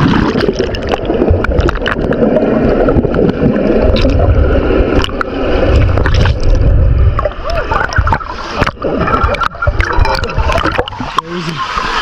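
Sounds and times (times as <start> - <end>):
water gurgling and sloshing: 0.0 - 12.0.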